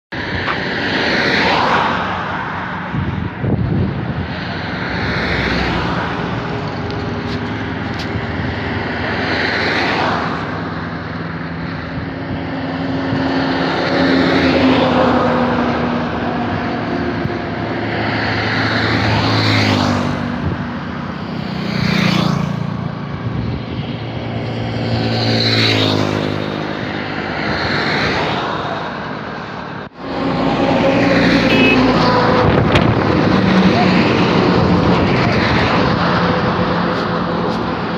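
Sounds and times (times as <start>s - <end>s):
vehicles passing by: 0.1s - 37.9s.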